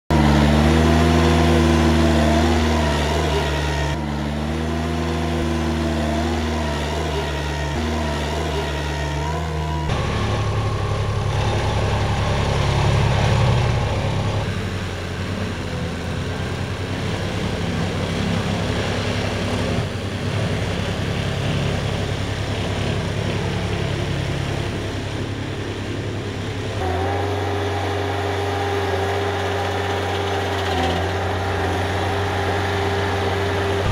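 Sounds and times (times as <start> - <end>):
plow blade pulling through soil: 0.1 - 33.9
tractor engine running: 0.1 - 33.9.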